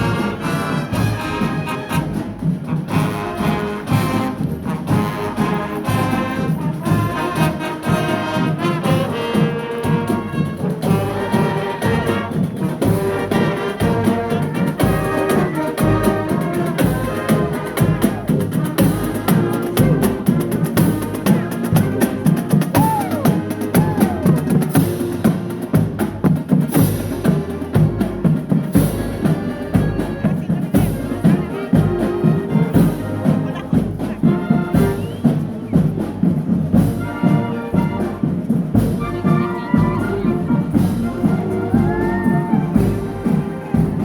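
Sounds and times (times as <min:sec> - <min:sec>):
brass band playing upbeat tune: 0:00.0 - 0:44.0
steady percussion: 0:00.0 - 0:44.0.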